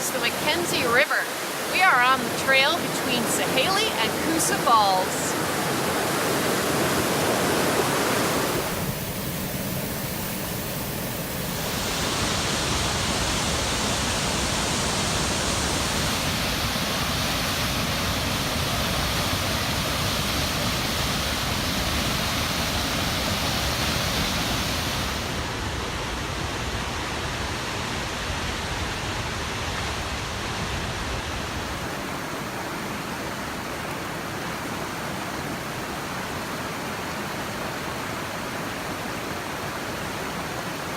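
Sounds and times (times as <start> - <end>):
whitewater and waterfalls rushing: 0.0 - 40.9.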